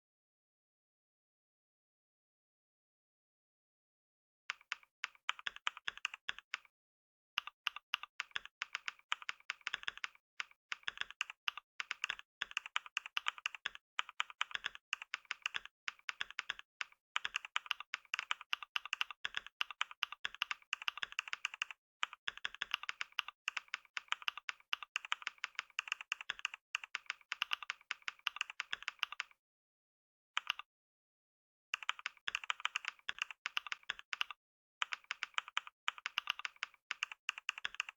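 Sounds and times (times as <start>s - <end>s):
computer keyboard typing: 4.5s - 6.7s, 7.4s - 29.4s, 30.4s - 30.7s, 31.8s - 37.9s.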